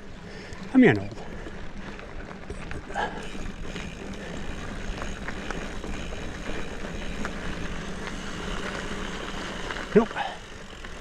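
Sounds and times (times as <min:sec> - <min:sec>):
tyres rumbling on dirt: 0:00.7 - 0:11.0
bike rattling clicks: 0:01.5 - 0:11.0.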